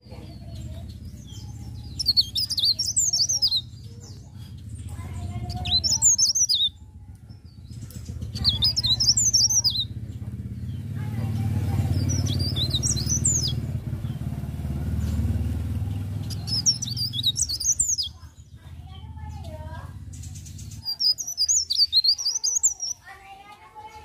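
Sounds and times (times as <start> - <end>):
songbird chirping: 0.0 - 24.0
steady low rumble: 0.1 - 22.1.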